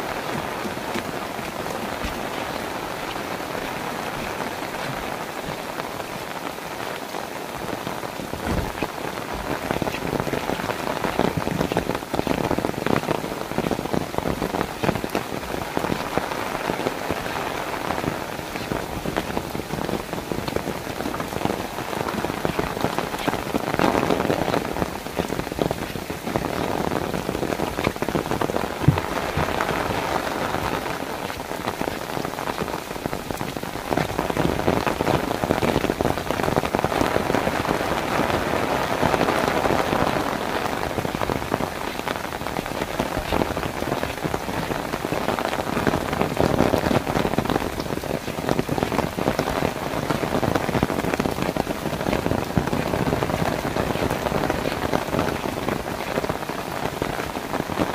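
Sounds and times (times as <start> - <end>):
rain pattering on walkway and trees: 0.0 - 57.9.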